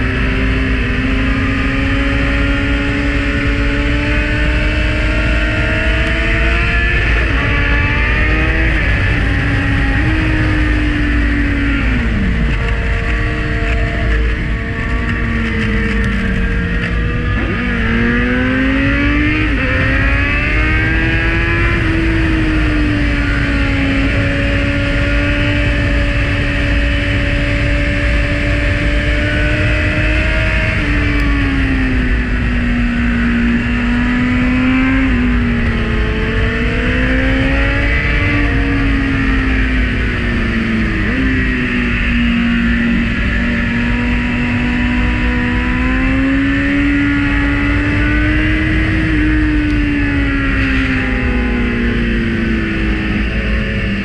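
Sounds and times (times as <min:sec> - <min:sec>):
motorcycle engine revving: 0:00.0 - 0:54.0
wind rushing over microphone: 0:00.0 - 0:54.0.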